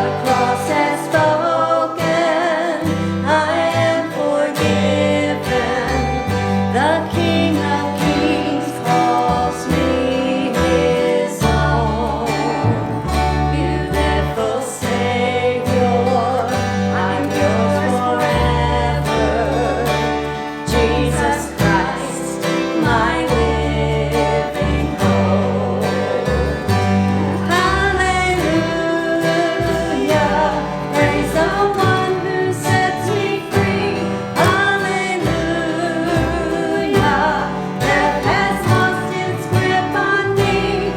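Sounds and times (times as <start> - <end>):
guitar: 0.0 - 40.9
person singing with vibrato: 0.0 - 40.9
steady bass line: 0.0 - 40.9.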